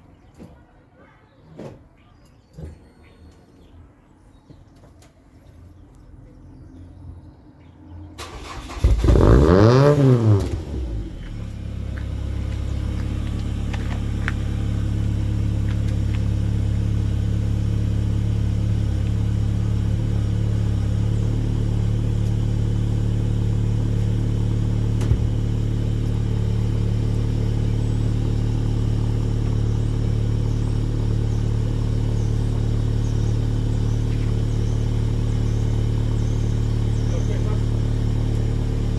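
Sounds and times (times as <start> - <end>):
car engine starting and idling: 5.8 - 38.9.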